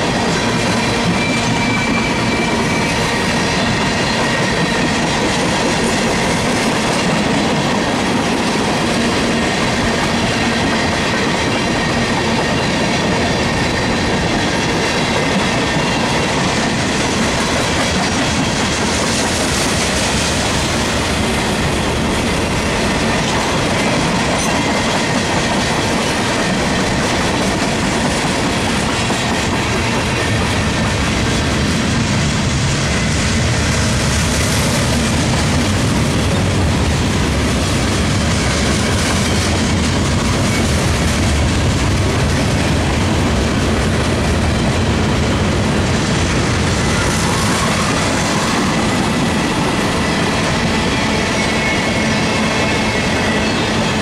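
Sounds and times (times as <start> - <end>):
steel wheels rolling on rails: 0.0 - 54.0.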